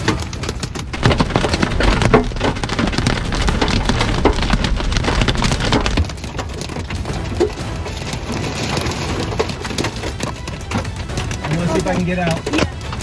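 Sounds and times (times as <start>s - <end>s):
rain and hail on car roof: 0.0s - 13.0s.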